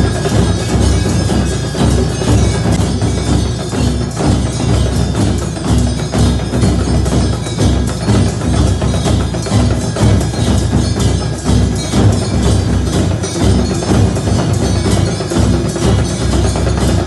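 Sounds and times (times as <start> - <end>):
bells ringing: 0.0 - 17.0
brass hand cymbals clashing: 0.0 - 17.0.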